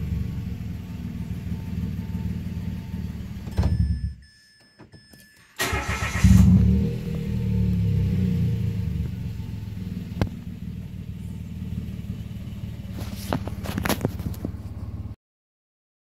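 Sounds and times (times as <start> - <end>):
car engine idling: 0.0 - 3.5, 5.4 - 15.2.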